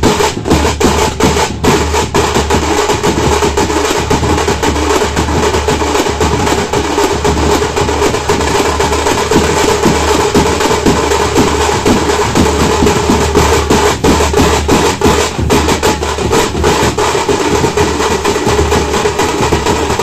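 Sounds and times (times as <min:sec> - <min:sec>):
frame drums beating fast: 0:00.0 - 0:20.0.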